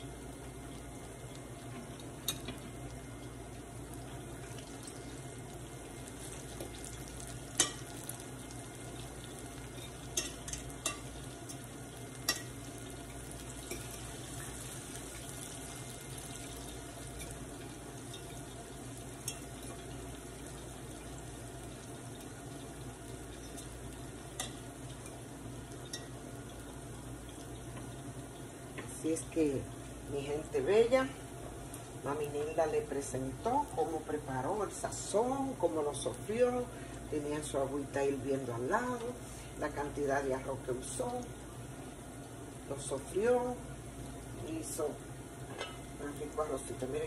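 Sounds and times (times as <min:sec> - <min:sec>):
plantain frying in hot oil: 0:00.0 - 0:47.0.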